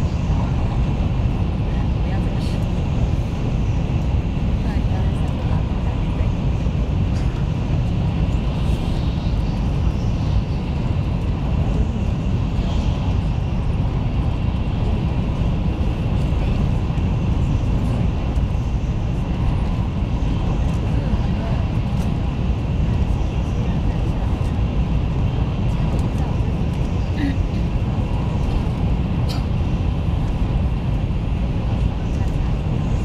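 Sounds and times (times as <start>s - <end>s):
train rumbling at speed: 0.0s - 33.0s.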